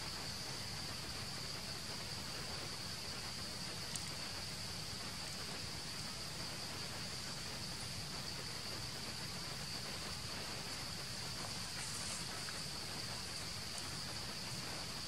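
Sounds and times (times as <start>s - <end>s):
background hiss: 0.0s - 15.0s
high-pitched insect drone: 1.6s - 15.0s.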